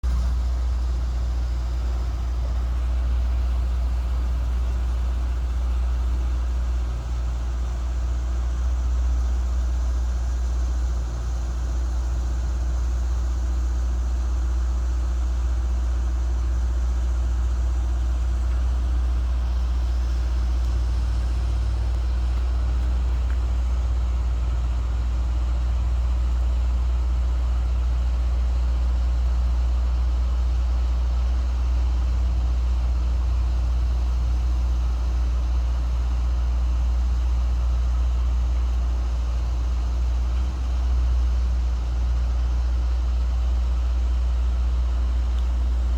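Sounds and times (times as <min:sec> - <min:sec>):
vehicle engine idling: 0:00.0 - 0:45.9.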